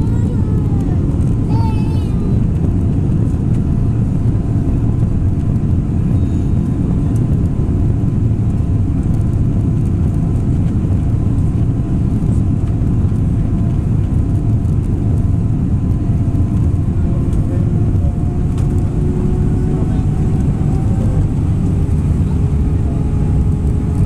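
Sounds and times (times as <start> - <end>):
aircraft engine rumble: 0.0 - 24.0.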